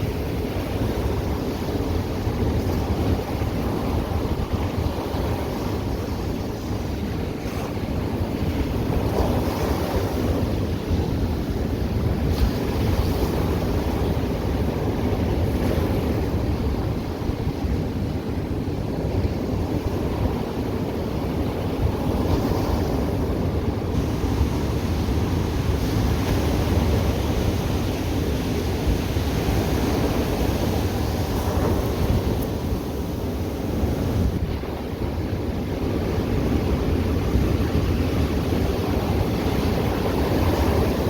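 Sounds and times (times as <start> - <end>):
ocean surf washing ashore: 0.0 - 41.0
wind rumbling on microphone: 0.0 - 41.0.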